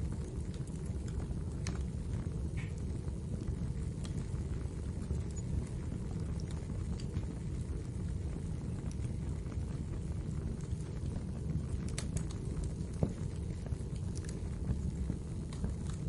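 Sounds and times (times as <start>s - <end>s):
fire crackling and popping: 0.0s - 16.0s
wood fire burning: 0.0s - 16.0s.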